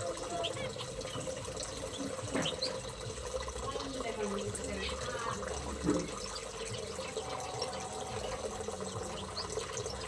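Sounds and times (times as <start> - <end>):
small birds chirping: 0.0 - 10.0
water trickling: 0.0 - 10.0.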